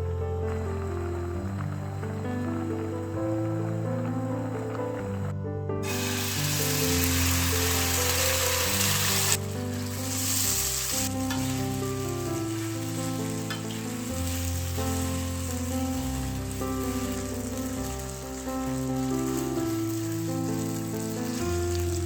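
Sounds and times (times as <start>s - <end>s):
food sizzling in a frying pan: 0.0s - 22.0s
gentle background music: 0.0s - 22.0s.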